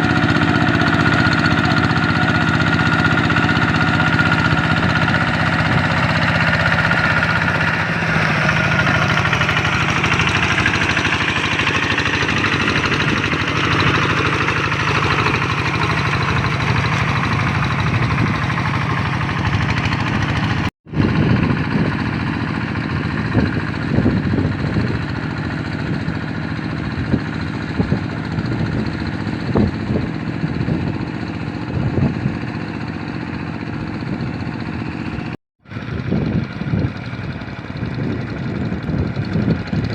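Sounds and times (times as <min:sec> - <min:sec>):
diesel engine running: 0:00.0 - 0:39.9
engine knocks: 0:00.0 - 0:39.9.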